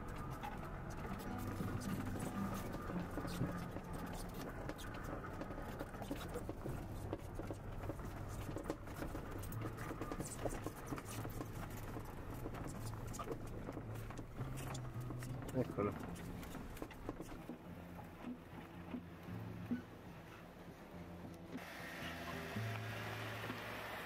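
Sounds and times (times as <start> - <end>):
knocks and rattles from bumpy ride: 0.0 - 20.4.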